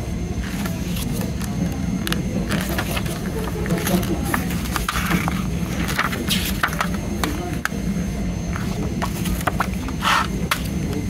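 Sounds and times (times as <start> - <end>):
paper pages rustling: 0.4 - 1.6, 2.4 - 7.7, 8.5 - 11.0.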